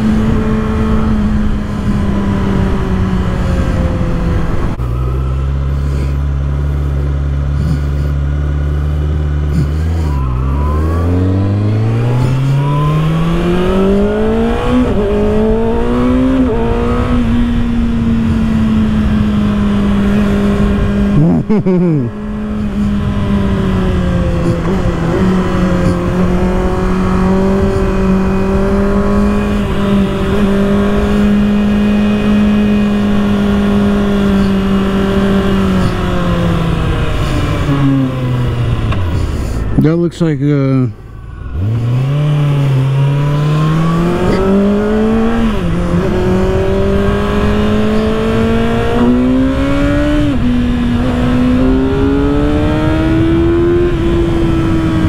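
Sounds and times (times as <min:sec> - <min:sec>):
motorcycle engine accelerating: 0:00.0 - 0:40.0, 0:40.7 - 0:55.0
wind and road noise: 0:00.0 - 0:55.0.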